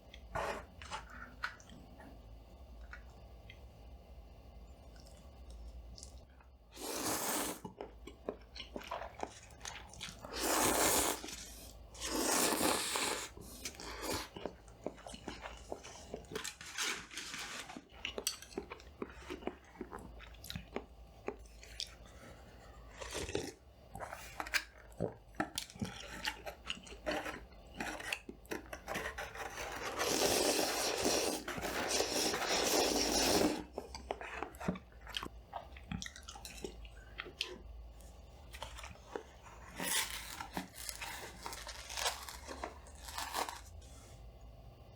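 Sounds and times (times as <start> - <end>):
chewing and crunching food: 4.7 - 44.3.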